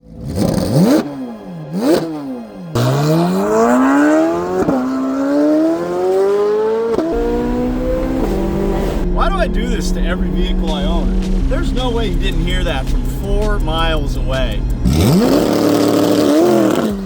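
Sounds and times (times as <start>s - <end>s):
car accelerating through gears: 0.0s - 17.0s
sports car engine revving: 0.0s - 17.0s.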